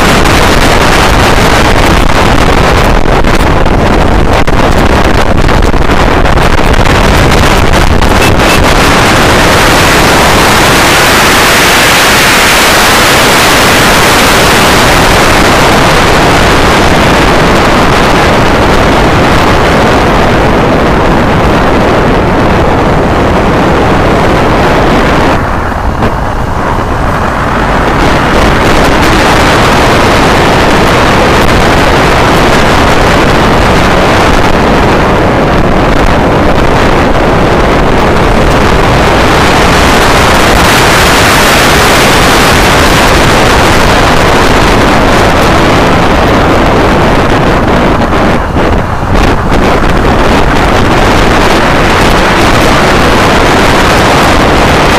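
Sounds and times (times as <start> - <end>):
motorcycle engine running: 0.0 - 54.9
wind buffeting a camera: 0.0 - 54.9.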